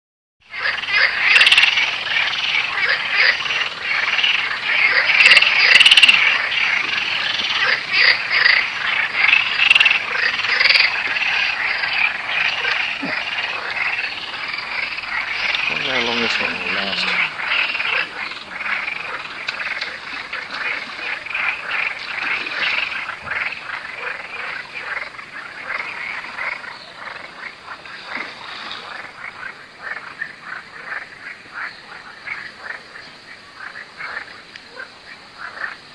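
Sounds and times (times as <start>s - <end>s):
chorus of frogs croaking: 0.4s - 35.9s.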